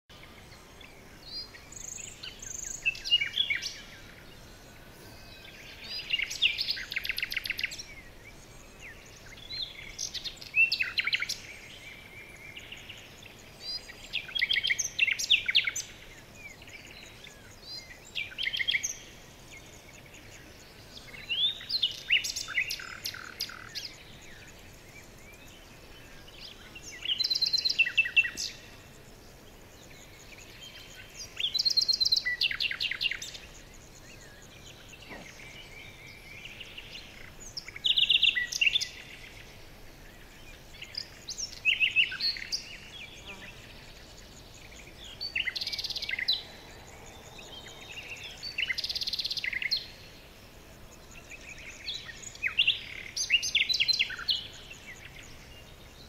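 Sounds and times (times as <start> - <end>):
faint background noise: 0.1 - 56.0
songbirds trilling and chirping: 0.1 - 56.0.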